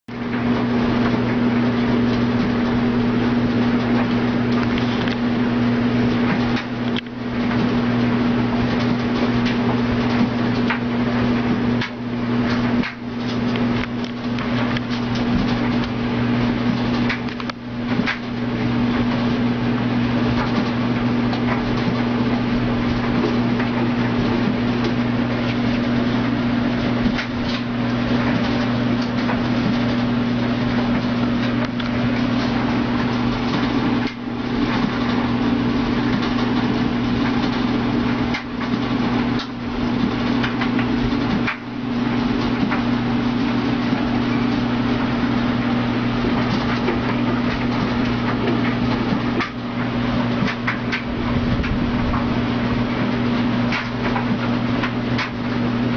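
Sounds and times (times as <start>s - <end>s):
machine humming and whirring: 0.1s - 55.9s.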